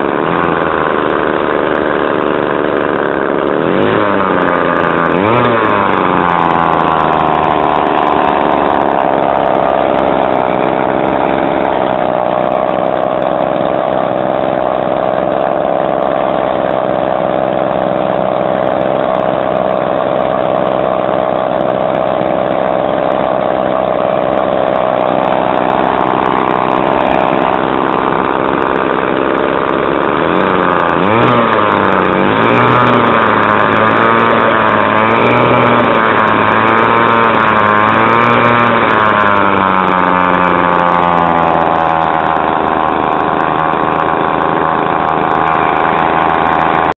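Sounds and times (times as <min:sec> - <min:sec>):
two-stroke trimmer engine running: 0:00.0 - 0:46.9.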